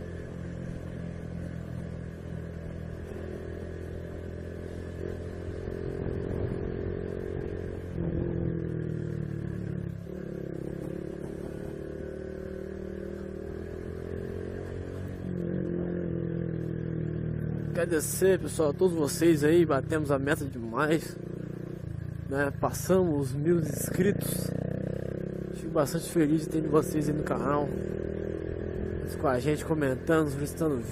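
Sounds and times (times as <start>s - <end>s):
motorbike engine running: 0.0s - 30.9s.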